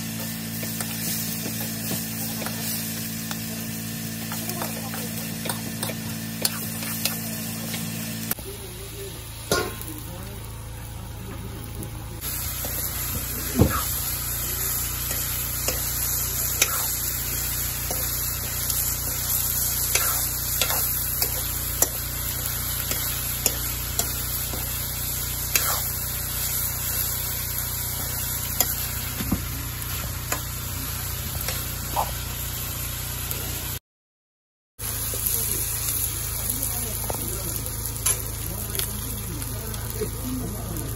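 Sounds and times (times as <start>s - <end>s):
food sizzling in a wok: 0.0s - 33.8s, 34.8s - 40.9s.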